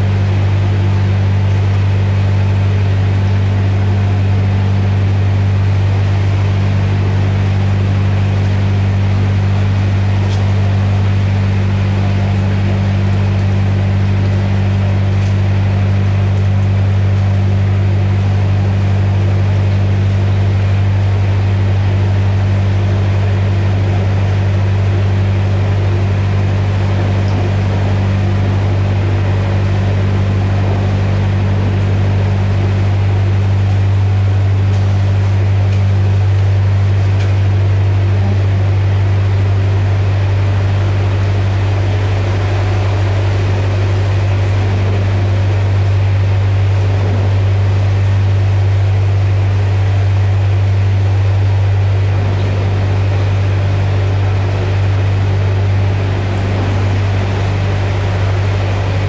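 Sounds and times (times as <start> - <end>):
diesel boat engine droning: 0.0 - 59.0.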